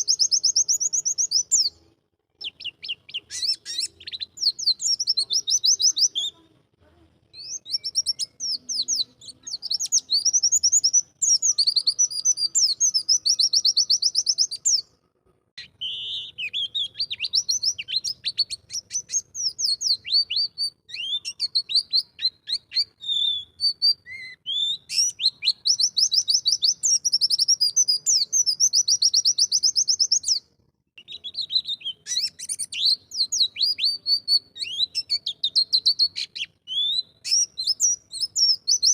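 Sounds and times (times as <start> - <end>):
bird singing rapid high notes: 0.0 - 1.8, 2.4 - 6.4, 7.4 - 14.9, 15.6 - 30.4, 31.0 - 38.9.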